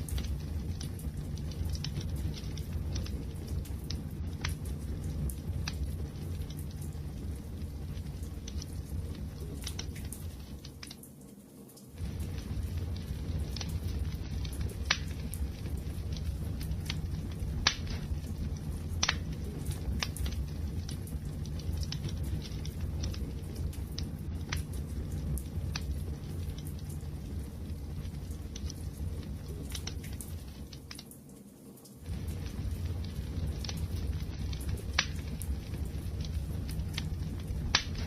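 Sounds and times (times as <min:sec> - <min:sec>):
fire low rumble: 0:00.0 - 0:11.3, 0:11.9 - 0:31.0, 0:32.0 - 0:38.0
fire crackles and pops: 0:00.0 - 0:38.0.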